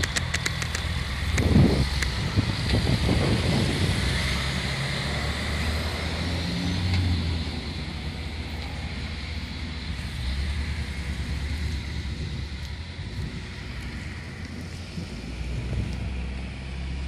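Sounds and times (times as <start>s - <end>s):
fire engine pulling away: 0.0s - 17.0s
vehicle engine driving past: 0.9s - 17.0s.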